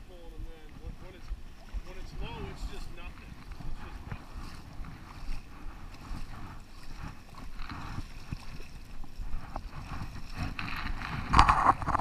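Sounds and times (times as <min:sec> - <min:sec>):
person wading through water: 0:00.0 - 0:12.0
fish thrashing and splashing: 0:01.6 - 0:12.0.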